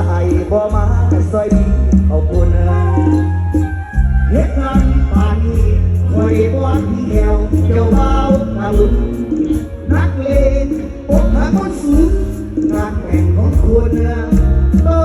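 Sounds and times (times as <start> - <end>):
heavy bass: 0.0 - 15.0
live band playing: 0.0 - 15.0
person singing: 0.0 - 15.0.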